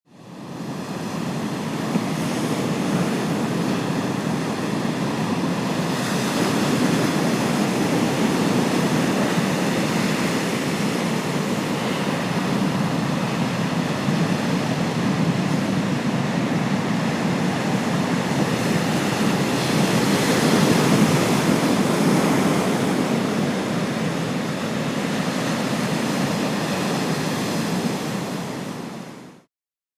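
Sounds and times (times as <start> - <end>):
ocean surf: 0.1 - 29.5
wind buffeting microphone: 0.4 - 29.1.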